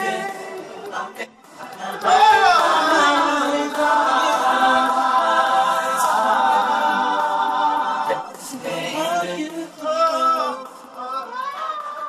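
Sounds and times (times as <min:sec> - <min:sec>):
men singing a cappella harmony: 0:00.0 - 0:12.0.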